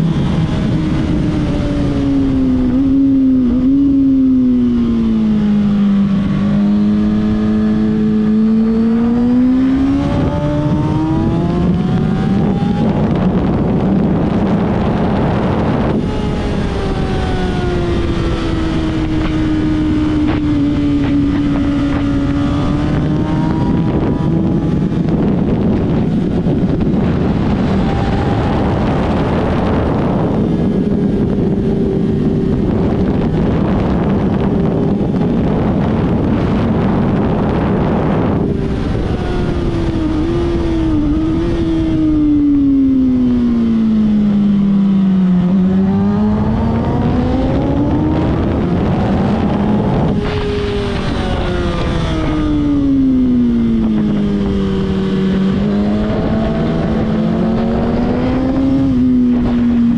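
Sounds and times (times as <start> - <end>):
race car engine: 0.0 - 59.9
heavy rushing noise: 5.6 - 59.9.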